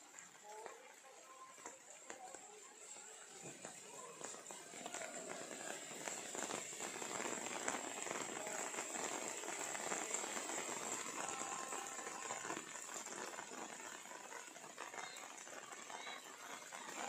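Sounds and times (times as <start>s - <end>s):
rain on wet paving: 0.0s - 17.0s.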